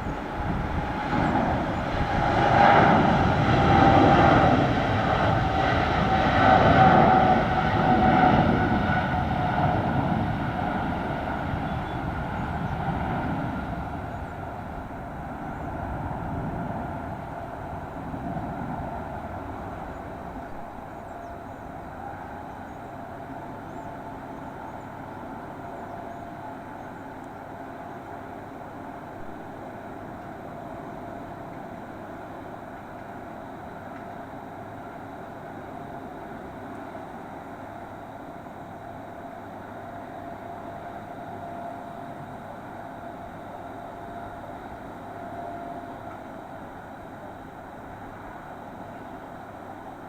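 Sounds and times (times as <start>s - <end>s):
jet airliner engines passing: 0.0s - 50.0s.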